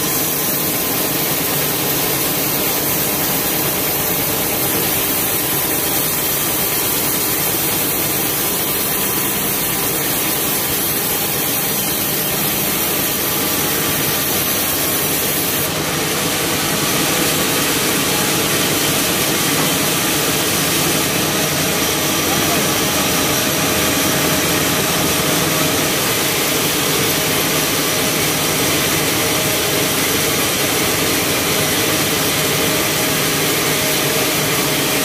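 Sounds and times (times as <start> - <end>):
band saw cutting through log: 0.0 - 35.0.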